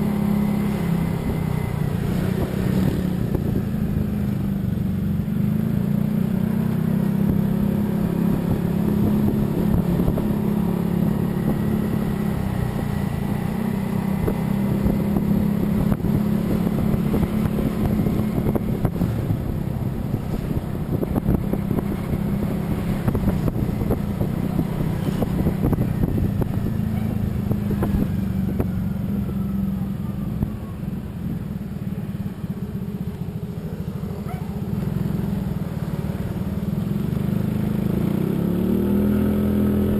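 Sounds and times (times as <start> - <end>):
vehicle engine hum: 0.0 - 39.9.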